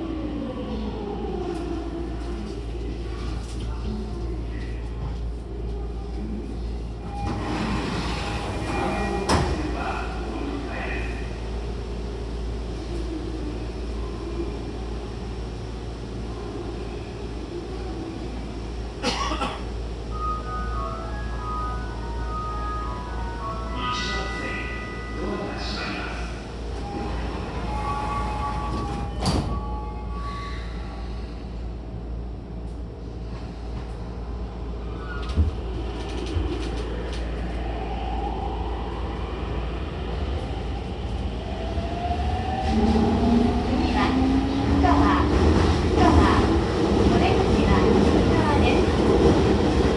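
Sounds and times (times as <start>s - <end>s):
subway train rumble: 0.0s - 49.9s.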